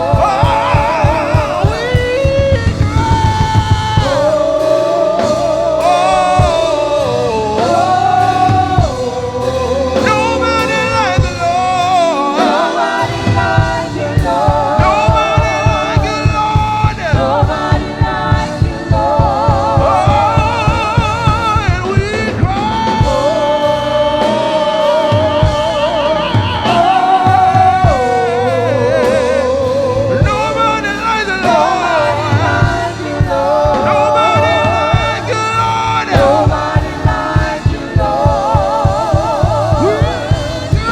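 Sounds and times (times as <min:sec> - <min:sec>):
band playing: 0:00.0 - 0:40.9
singers holding long notes: 0:00.0 - 0:40.9
steady drum beat: 0:00.0 - 0:40.9.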